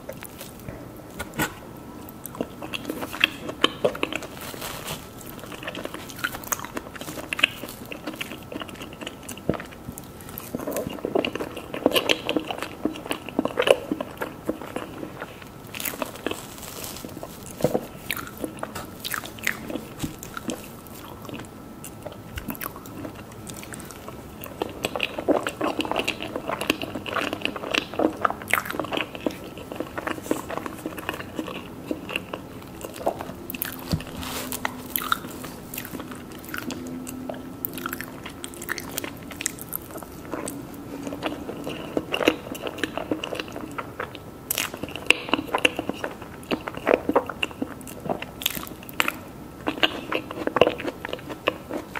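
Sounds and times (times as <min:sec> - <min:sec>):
chewing crunches: 0:00.0 - 0:51.9.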